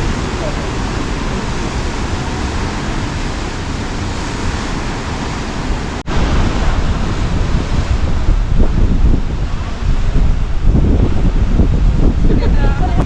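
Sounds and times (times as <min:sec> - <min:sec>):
ocean surf: 0:00.0 - 0:13.0
wind rumbling on microphone: 0:00.0 - 0:13.0.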